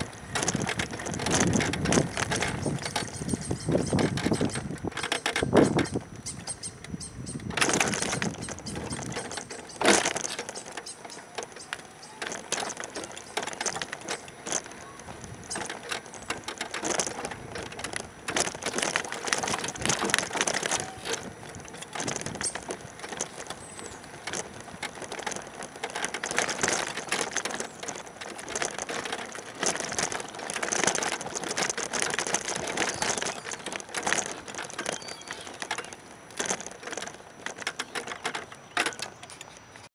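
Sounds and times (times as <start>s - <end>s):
wheelchair rattling on concrete: 0.0s - 39.9s.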